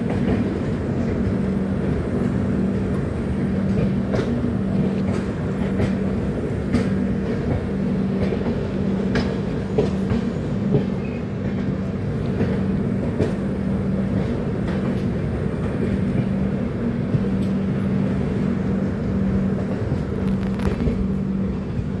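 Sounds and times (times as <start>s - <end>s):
train hum: 0.0s - 22.0s
train rumbling on track: 0.0s - 22.0s.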